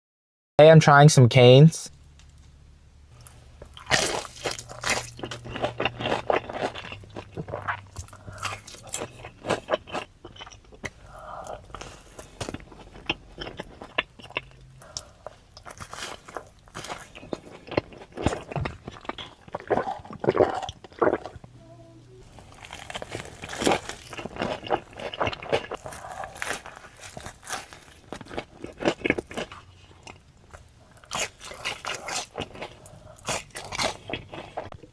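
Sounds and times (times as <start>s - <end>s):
crunchy food chewing: 3.1s - 21.6s, 22.2s - 34.9s.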